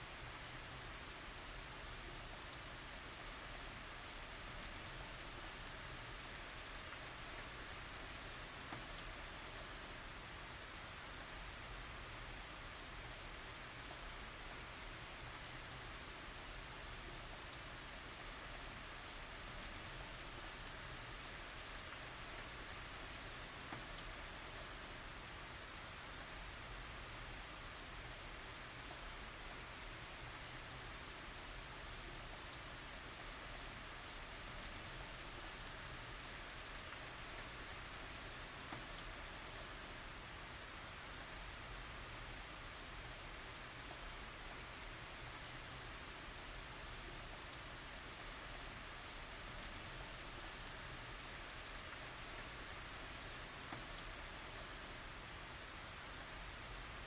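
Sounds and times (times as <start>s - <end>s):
steady rain hiss: 0.0s - 57.0s
raindrop ticks: 0.2s - 10.3s, 10.9s - 25.3s, 26.0s - 40.2s, 40.9s - 55.4s, 56.0s - 57.0s.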